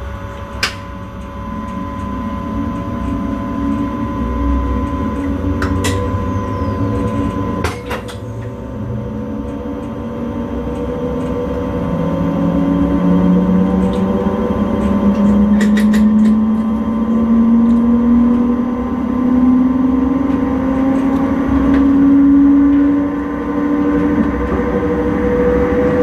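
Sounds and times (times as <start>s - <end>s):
train traction motor whine: 0.0s - 26.0s
wheels rumbling on track: 0.0s - 26.0s.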